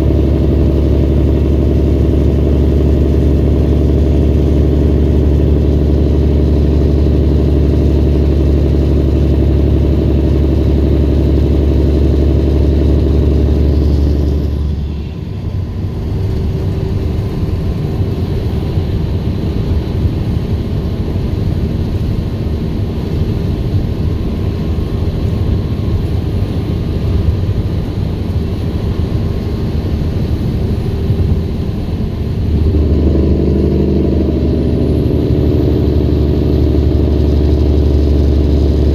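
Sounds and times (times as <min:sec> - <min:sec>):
heavy diesel truck engine: 0:00.0 - 0:38.9
road noise: 0:00.0 - 0:38.9.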